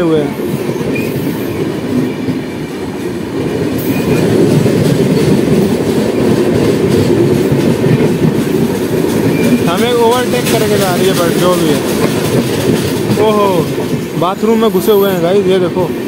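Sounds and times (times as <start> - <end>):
train wheels clattering over rails: 0.0 - 16.0.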